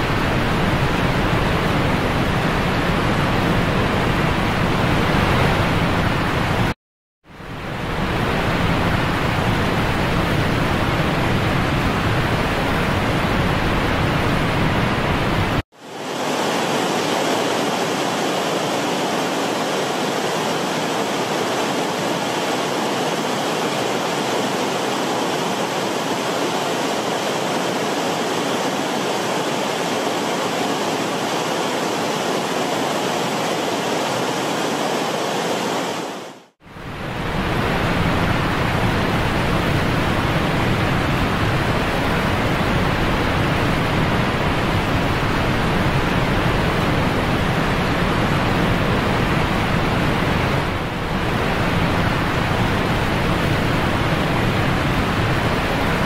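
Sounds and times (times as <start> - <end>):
rush of running water: 0.0 - 56.0.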